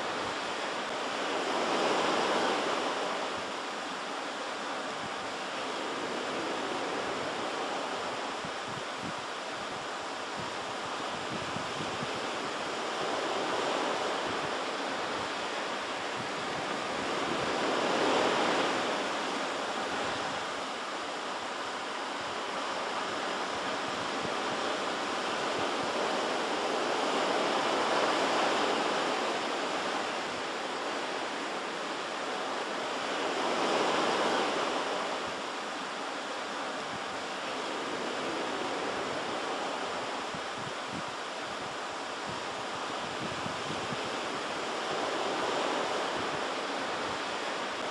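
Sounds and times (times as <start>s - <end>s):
ocean surf washing ashore: 0.0s - 47.9s.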